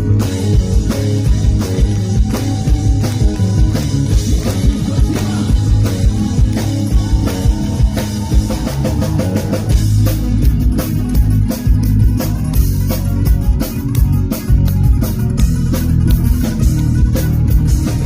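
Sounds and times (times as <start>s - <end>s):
drum kit beat: 0.0s - 18.0s
guitars and bass: 0.0s - 18.0s.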